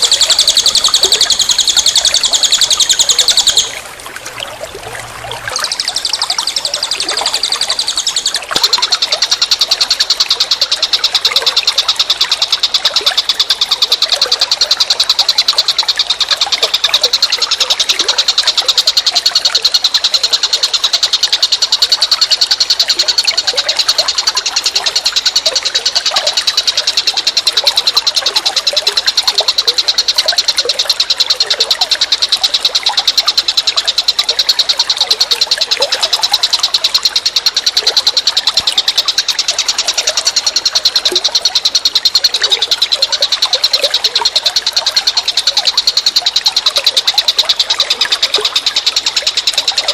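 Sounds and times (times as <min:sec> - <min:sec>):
high-pitched pulsed trill: 0:00.0 - 0:03.8, 0:05.4 - 0:49.9.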